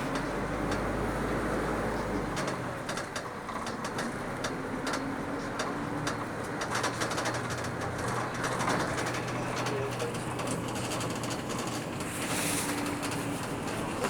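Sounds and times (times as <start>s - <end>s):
bus body rattling: 0.0s - 14.0s
bus engine running: 0.0s - 14.0s.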